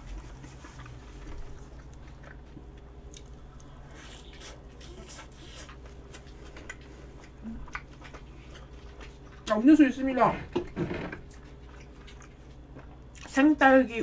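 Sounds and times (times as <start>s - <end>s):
person chewing food: 0.0s - 9.6s, 11.2s - 13.4s.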